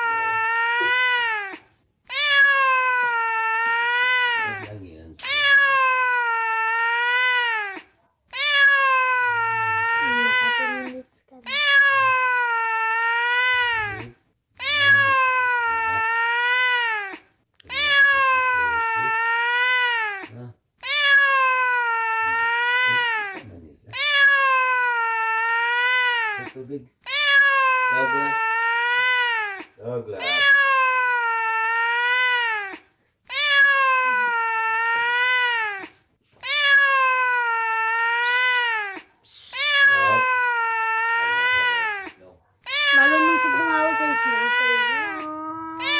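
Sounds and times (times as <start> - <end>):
cat meowing: 0.0 - 45.9.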